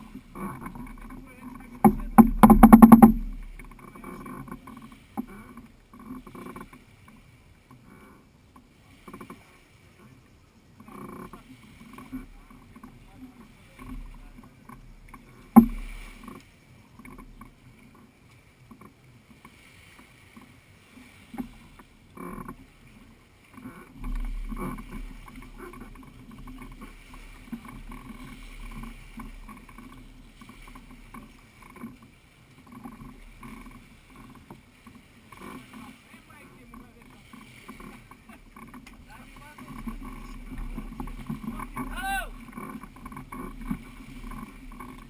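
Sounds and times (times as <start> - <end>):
light knocks from boat: 0.0 - 7.9, 8.5 - 45.0
small waves lapping and splashing: 0.0 - 45.0.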